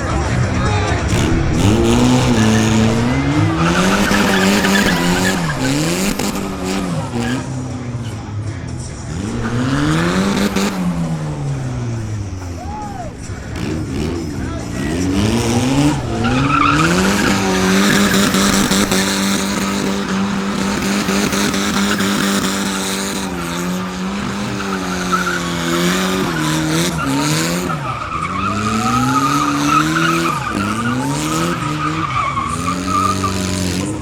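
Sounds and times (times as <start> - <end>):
car engine revving: 0.0 - 34.0
tyres screeching: 0.0 - 34.0.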